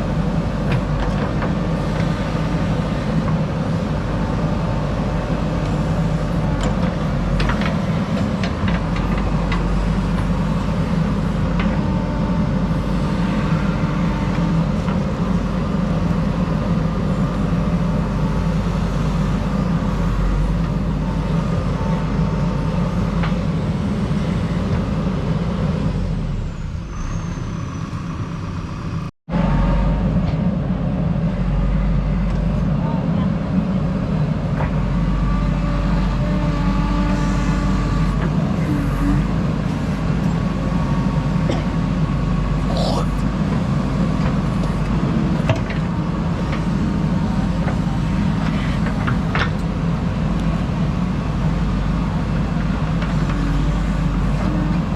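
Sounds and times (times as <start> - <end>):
diesel engine running under load: 0.0 - 54.9.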